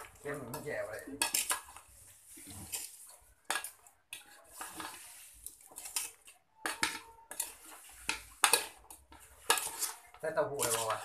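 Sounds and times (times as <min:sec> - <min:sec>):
metal spoon scraping a pot: 0:00.0 - 0:11.0.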